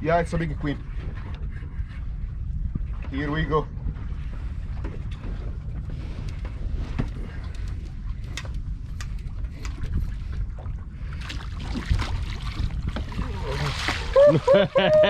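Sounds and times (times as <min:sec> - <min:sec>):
boat rumble: 0:00.0 - 0:15.0
wind noise on microphone: 0:00.0 - 0:15.0.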